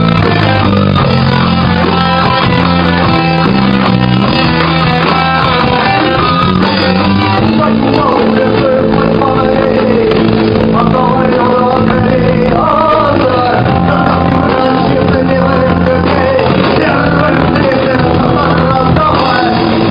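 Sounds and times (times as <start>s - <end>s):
rock band playing live: 0.0s - 19.9s.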